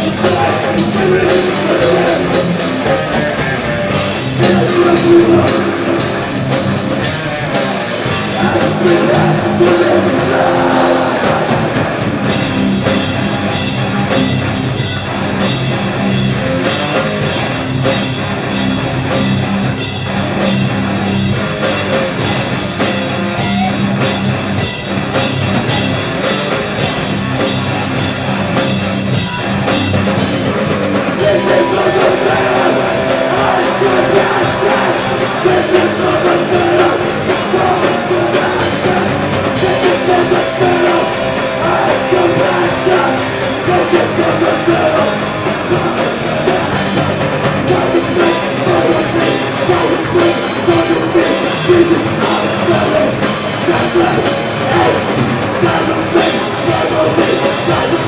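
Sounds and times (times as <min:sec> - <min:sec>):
drum kit: 0:00.0 - 0:58.0
electric guitars: 0:00.0 - 0:58.0.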